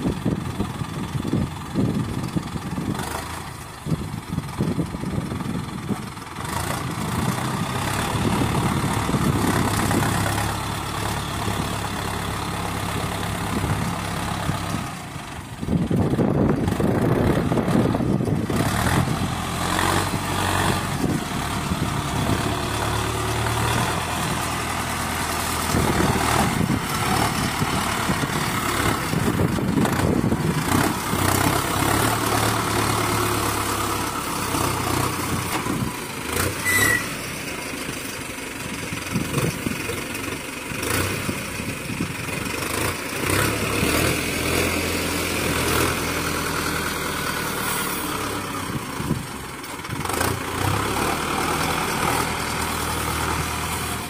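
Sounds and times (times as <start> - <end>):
diesel tractor engine revving: 0.0 - 54.0.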